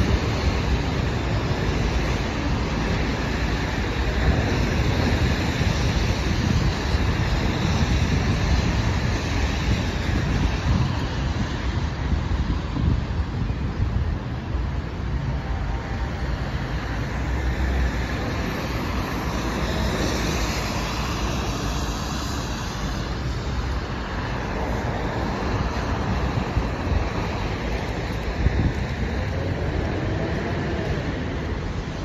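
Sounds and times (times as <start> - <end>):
cars passing on wet road: 0.0 - 32.0.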